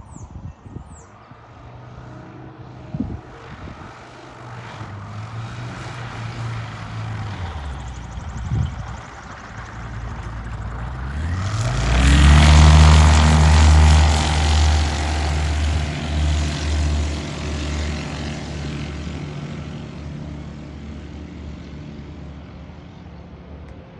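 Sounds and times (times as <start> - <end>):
propeller airplane engine passing: 1.5 - 23.9.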